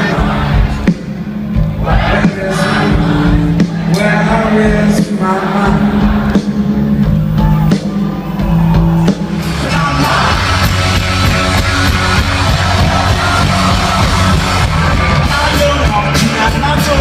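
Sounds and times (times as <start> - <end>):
loud rock music with singing: 0.0 - 17.0.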